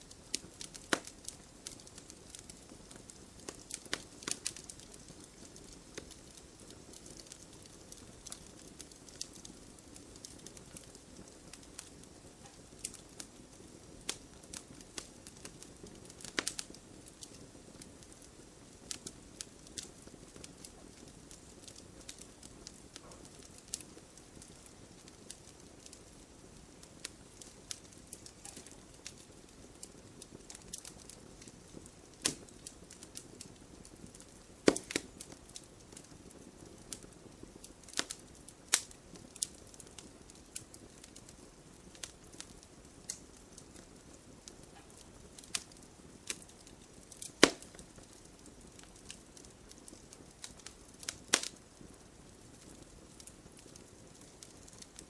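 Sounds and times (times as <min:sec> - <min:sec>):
burning wood popping: 0:00.0 - 0:55.0
wood fire crackling: 0:00.0 - 0:55.0.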